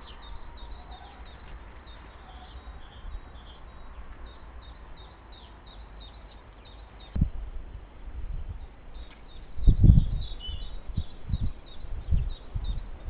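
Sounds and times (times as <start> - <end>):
songbird chirping: 0.0 - 7.3, 8.5 - 13.0.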